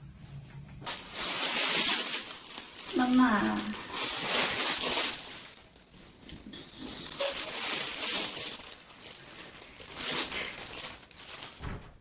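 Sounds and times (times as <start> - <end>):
paper tearing and crinkling: 0.9 - 11.6.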